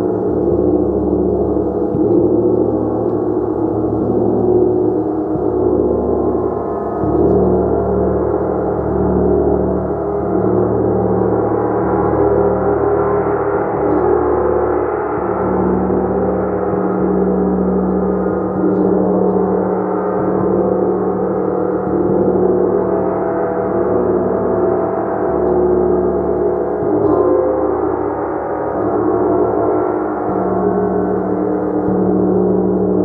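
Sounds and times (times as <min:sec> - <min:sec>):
gong played continuously: 0:00.0 - 0:33.0.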